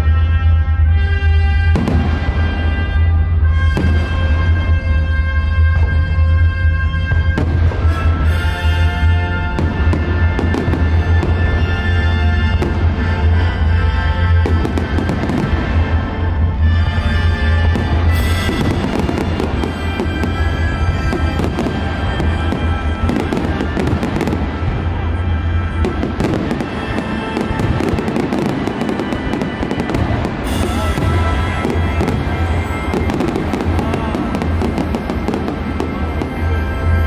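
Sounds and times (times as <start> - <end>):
fireworks bangs and crackles: 0.0 - 37.0
music playing: 0.0 - 37.0.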